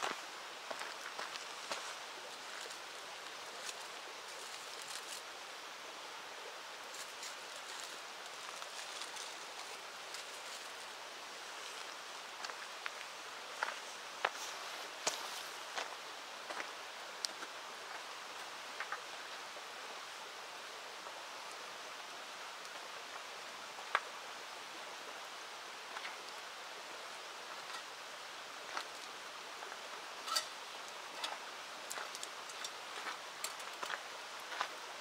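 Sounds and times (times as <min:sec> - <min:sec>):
river rushing: 0:00.0 - 0:35.0.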